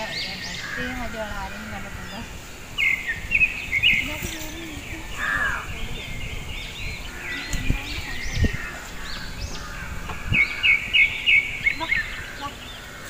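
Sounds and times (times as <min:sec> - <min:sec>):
birds calling and chirping: 0:00.0 - 0:13.0.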